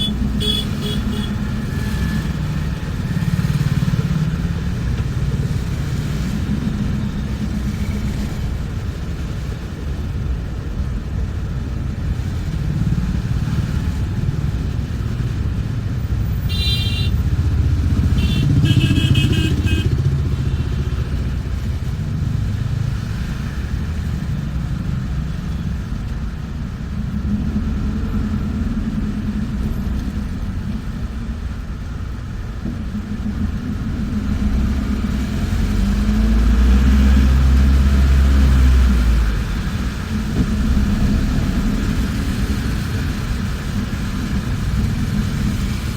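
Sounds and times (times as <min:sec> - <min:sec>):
bus engine and road rumble: 0:00.0 - 0:45.9.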